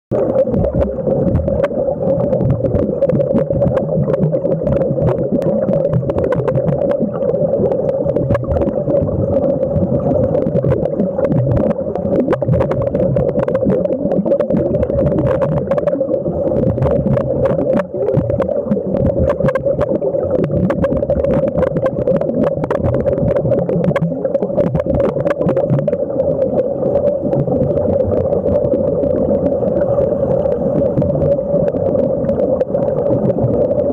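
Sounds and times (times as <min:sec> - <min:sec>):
underwater air bubbling: 0:00.1 - 0:33.9.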